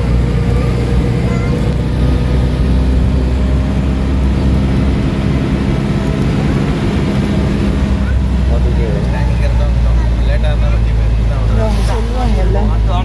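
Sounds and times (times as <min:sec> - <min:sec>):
road noise: 0:00.0 - 0:13.0
van engine droning: 0:00.0 - 0:13.0.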